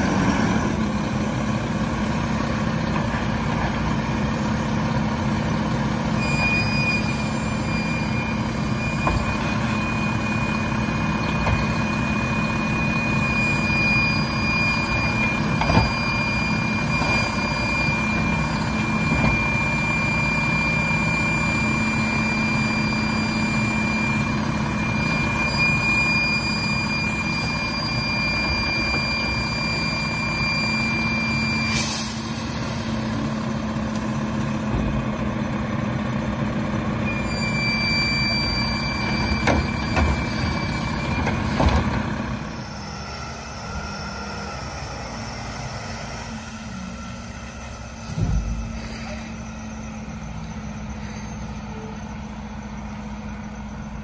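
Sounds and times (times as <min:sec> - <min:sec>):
garbage truck running: 0:00.0 - 0:54.0.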